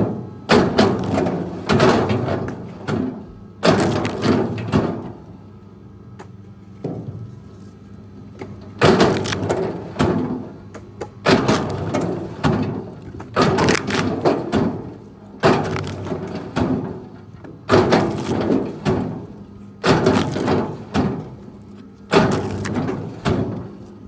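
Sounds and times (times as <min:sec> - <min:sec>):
wood cracking and crashing: 0:00.6 - 0:05.2, 0:08.4 - 0:10.6, 0:11.2 - 0:24.0.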